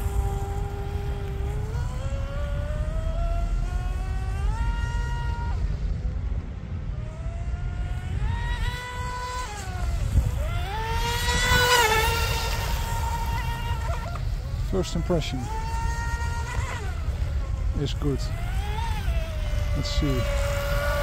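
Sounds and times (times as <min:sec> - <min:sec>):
rc boat motor whine: 0:00.0 - 0:21.0.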